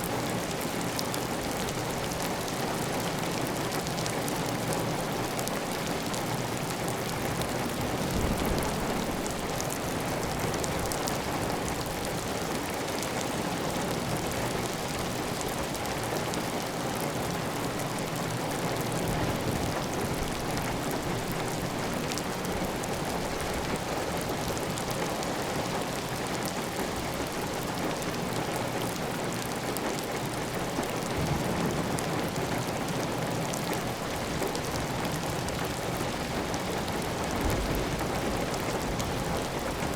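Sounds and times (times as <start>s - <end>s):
rain pattering on a tile roof: 0.0s - 39.9s.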